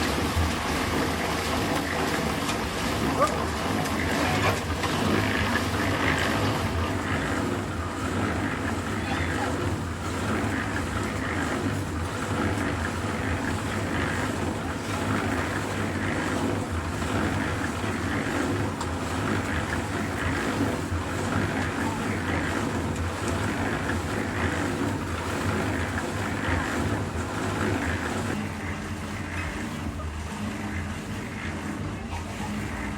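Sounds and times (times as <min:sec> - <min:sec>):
machinery engine humming: 0:00.0 - 0:32.9.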